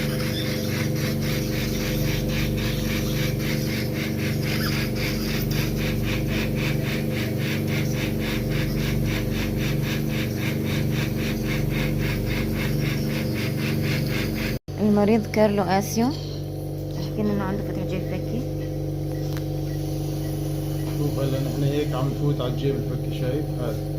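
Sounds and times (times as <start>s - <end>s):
surgical shaver motor hum and rasping: 0.0s - 14.6s, 15.4s - 23.9s.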